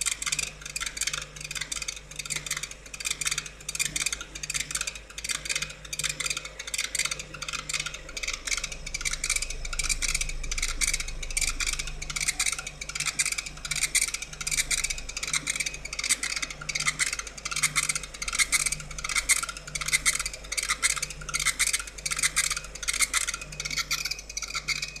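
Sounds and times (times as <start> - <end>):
laser crackling ticks: 0.0 - 25.0
low motor hum: 0.0 - 25.0.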